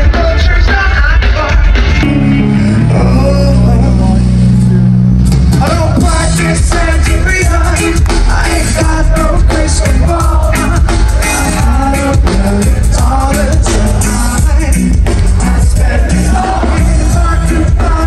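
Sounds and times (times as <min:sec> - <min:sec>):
live reggae-rock band with man singing: 0:00.0 - 0:18.0.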